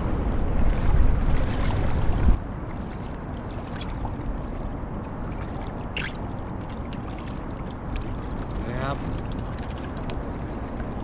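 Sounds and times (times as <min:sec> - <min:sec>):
wind rumble on microphone: 0:00.0 - 0:11.0
water lapping against kayak hull: 0:00.3 - 0:11.0.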